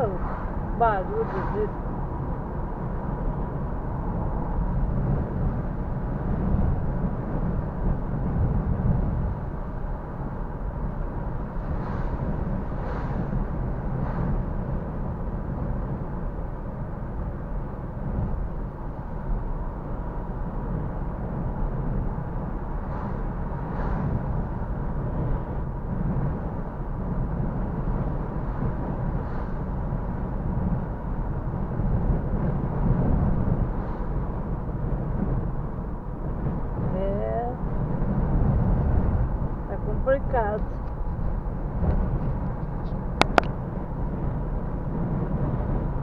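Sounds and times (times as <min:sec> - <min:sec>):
strong wind rumble: 0:00.0 - 0:46.0.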